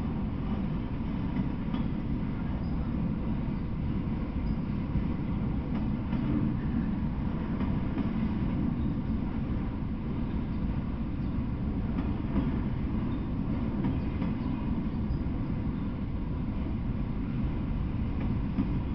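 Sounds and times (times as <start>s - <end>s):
train wheels rumbling on rail: 0.0s - 18.9s.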